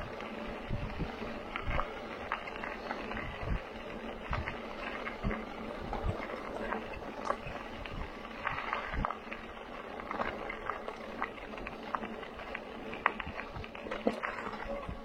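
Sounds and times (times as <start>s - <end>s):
bicycle clicks and rattles: 0.0s - 15.0s
bicycle tyre noise on dirt trail: 0.0s - 15.0s.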